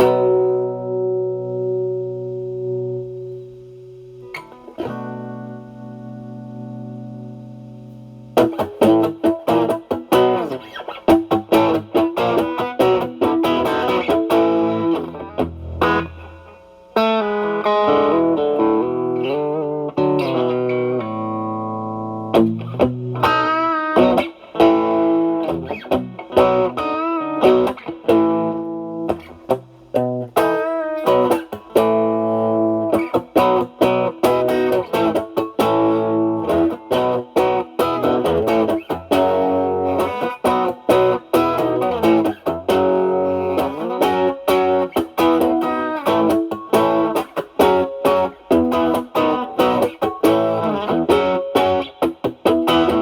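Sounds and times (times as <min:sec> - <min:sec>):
overdriven electric guitar lead: 0:00.0 - 0:53.0.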